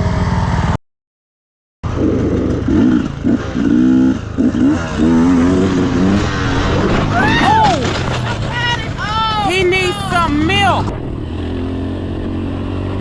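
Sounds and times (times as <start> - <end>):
dirt bike engine revving: 1.8 - 13.0.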